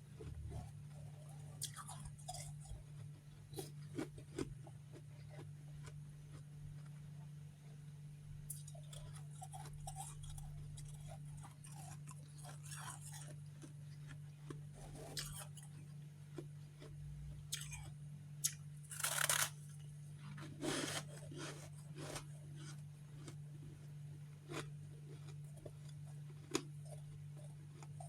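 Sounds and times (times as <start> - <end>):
chewing crunchy frost: 0.0 - 7.8, 8.5 - 28.0.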